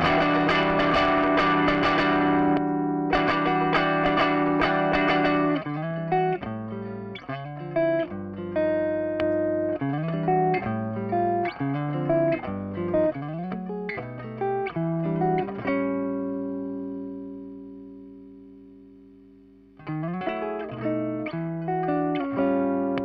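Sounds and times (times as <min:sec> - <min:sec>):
electric guitar melody: 0:00.0 - 0:23.0.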